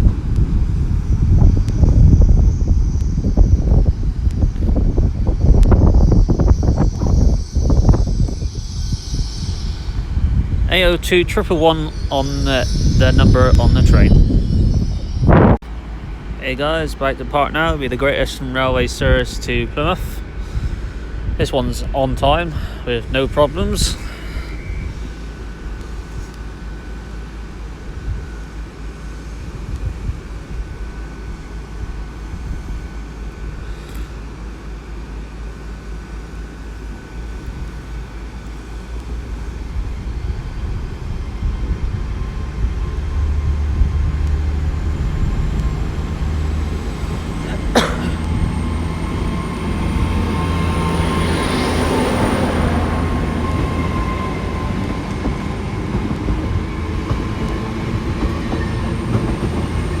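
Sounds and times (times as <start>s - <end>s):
thin high whine: 0.0s - 60.0s
train diesel engine rumble: 0.0s - 60.0s.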